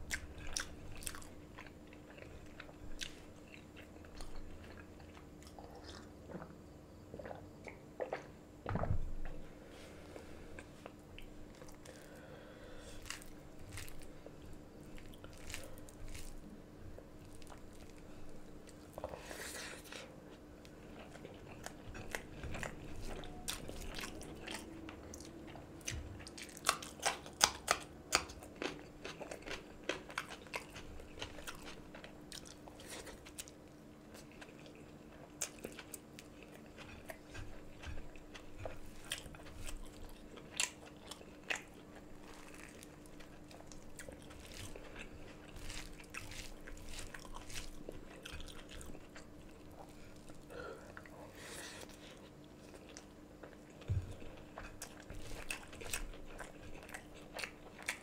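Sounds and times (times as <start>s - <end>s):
person chewing: 0.0s - 8.4s, 10.5s - 58.0s.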